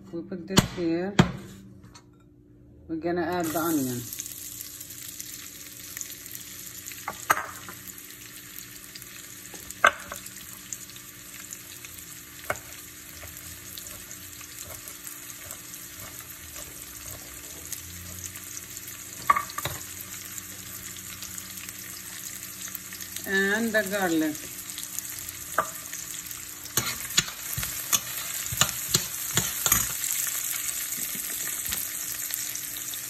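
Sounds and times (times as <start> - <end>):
onion sizzling in a pan: 3.4 - 33.0.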